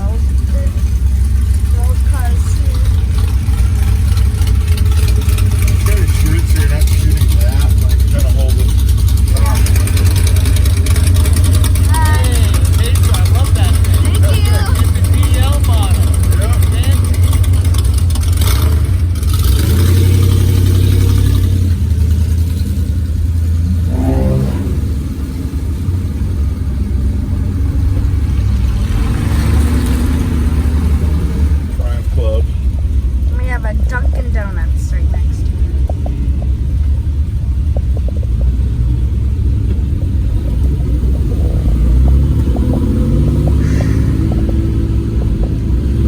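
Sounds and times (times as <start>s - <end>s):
car engines rumbling in traffic: 0.0s - 46.0s
engine revving: 0.0s - 46.0s.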